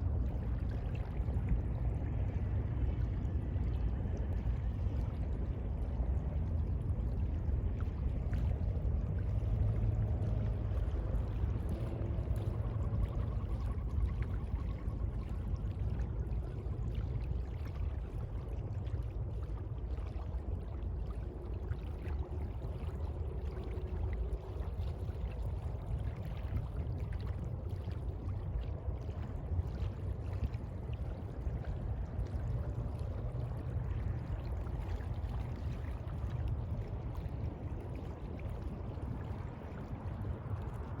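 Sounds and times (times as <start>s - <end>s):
sea water lapping and sloshing: 0.0s - 41.0s.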